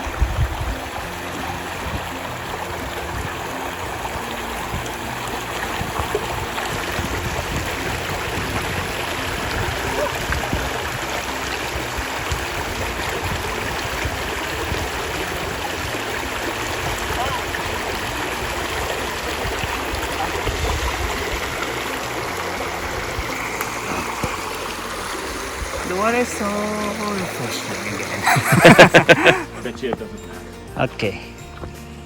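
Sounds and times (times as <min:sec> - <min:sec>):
waterfall rushing and splashing: 0:00.0 - 0:29.5.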